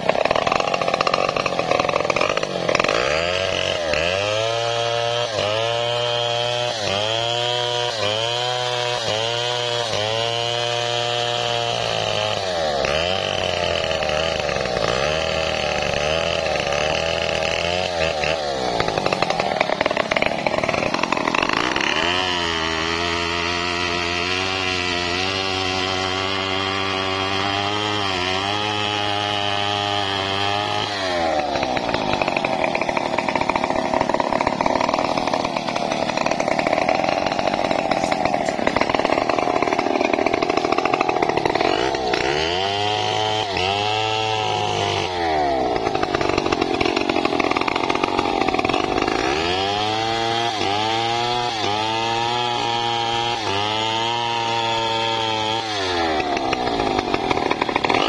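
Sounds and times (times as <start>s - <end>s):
chainsaw cutting tree trunk: 0.0s - 58.0s
chainsaw running: 0.0s - 58.0s.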